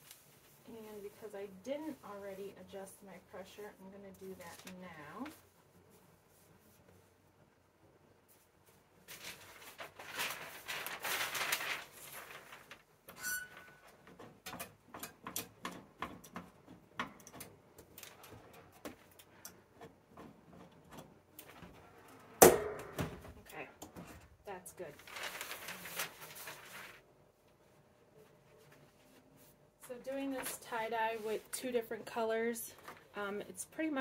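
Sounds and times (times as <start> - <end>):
rustling and handling noise: 0.0 - 34.0.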